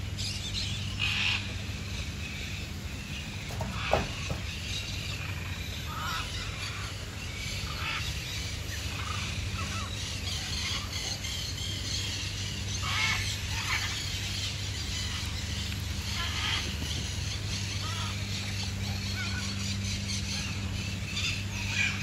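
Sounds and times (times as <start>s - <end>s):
birds calling: 0.0s - 22.0s
steady low hum: 0.0s - 22.0s.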